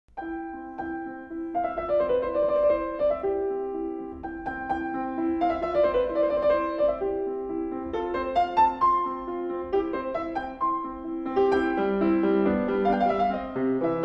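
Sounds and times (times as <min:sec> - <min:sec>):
piano music: 0:00.1 - 0:14.0.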